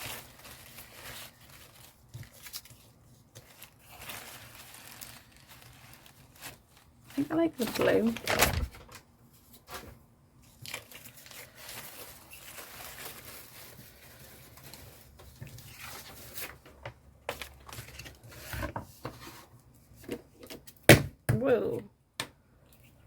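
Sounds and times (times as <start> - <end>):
paper rustling and crinkling: 0.0 - 20.2.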